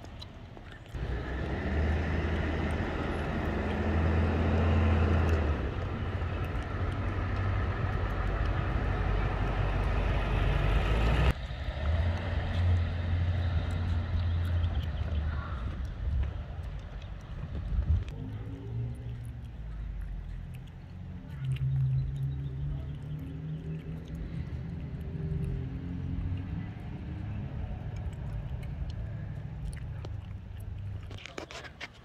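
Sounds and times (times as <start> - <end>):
low rumble of street noise: 0.0 - 32.0.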